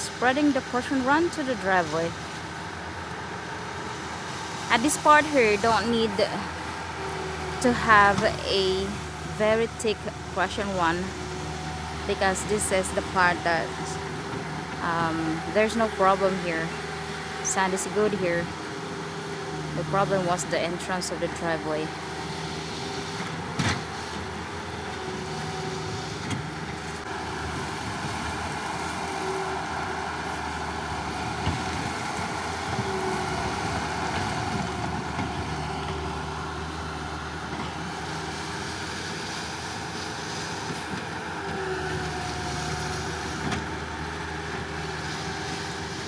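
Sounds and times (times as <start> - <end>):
skid steer engine running: 0.0 - 46.0.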